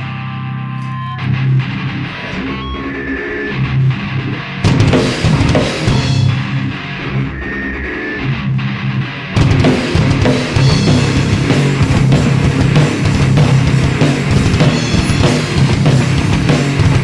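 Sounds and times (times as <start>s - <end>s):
distorted electric guitars: 0.0s - 17.0s
drum kit: 1.3s - 17.0s.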